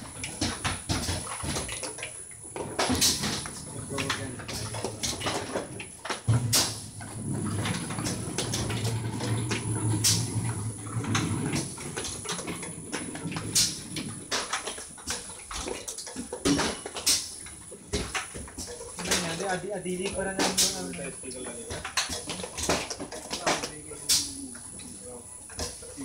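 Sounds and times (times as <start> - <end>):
labelling machine clicking and clattering: 0.0 - 26.0.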